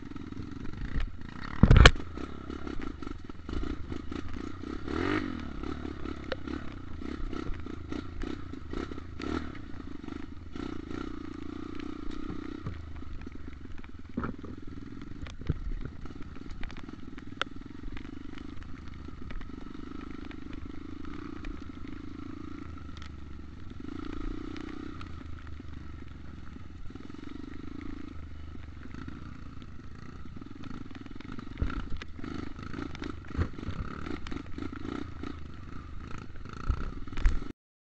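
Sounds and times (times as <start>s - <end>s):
dirt bike engine revving: 0.0s - 37.5s.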